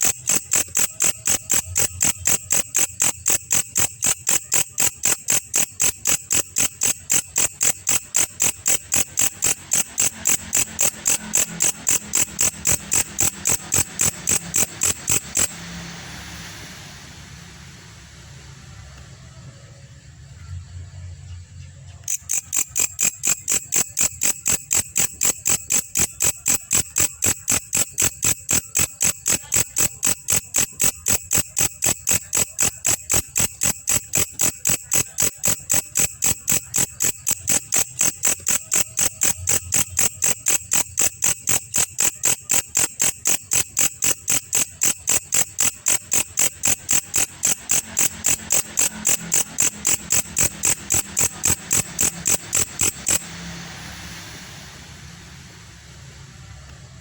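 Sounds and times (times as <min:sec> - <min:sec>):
insect clicking chirps: 0:00.0 - 0:15.6, 0:22.0 - 0:53.3.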